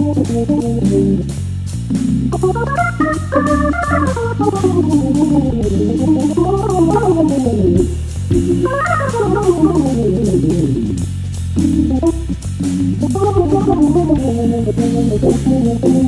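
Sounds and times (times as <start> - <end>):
drum kit with cymbals: 0.0 - 16.0
jazz waltz on organ: 0.0 - 16.0
walking bass line: 0.0 - 16.0.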